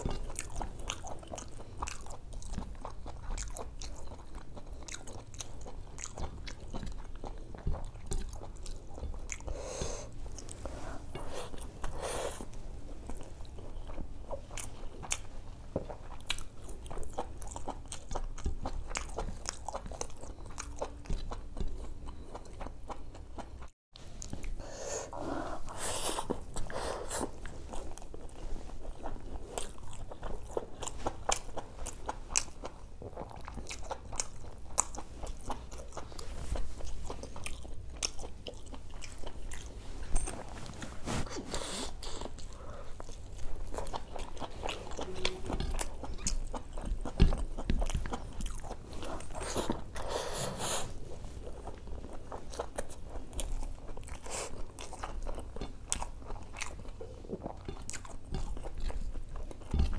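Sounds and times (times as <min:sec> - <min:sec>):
wet chewing and mouth smacks: 0:00.0 - 0:24.6, 0:25.7 - 0:59.9.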